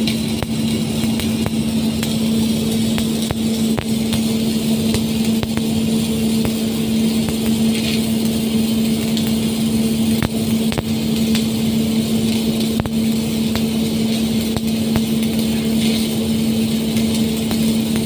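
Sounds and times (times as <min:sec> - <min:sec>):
sharp welding ticks: 0:00.0 - 0:18.0
welding hiss: 0:00.0 - 0:18.0
welding machine hum: 0:00.0 - 0:18.0.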